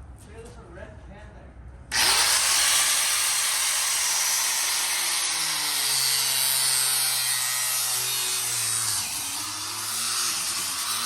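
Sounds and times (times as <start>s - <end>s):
angle grinder cutting metal: 1.9s - 11.0s.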